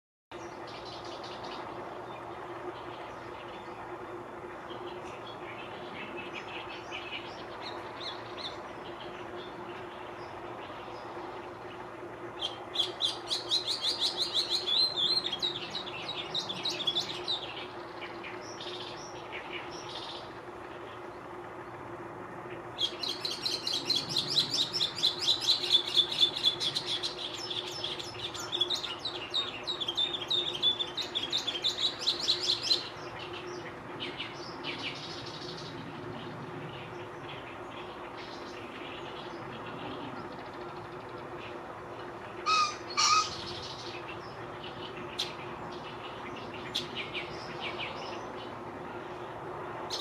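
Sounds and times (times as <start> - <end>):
steady low hum: 0.3 - 50.0.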